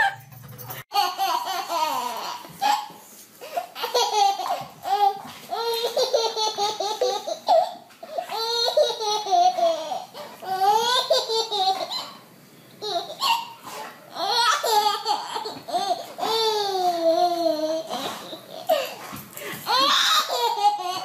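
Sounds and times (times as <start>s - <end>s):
baby laughing: 0.0s - 12.2s, 12.8s - 21.0s.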